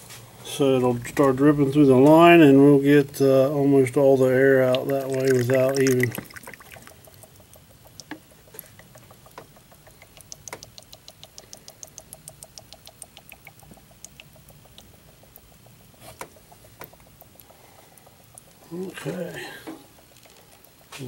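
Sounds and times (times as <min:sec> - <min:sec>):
brake fluid bubbling and dripping: 0:00.8 - 0:21.0.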